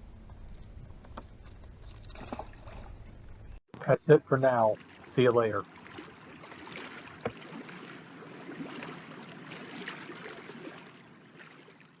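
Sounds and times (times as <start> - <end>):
water lapping and trickling: 0.1 - 12.0.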